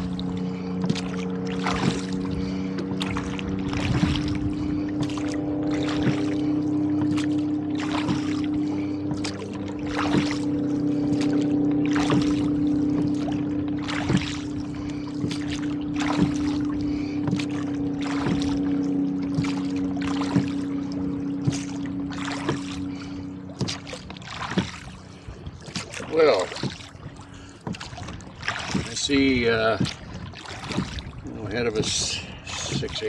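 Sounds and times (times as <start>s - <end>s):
oars splashing and knocking: 0.0s - 33.0s
steady hum: 0.0s - 33.0s.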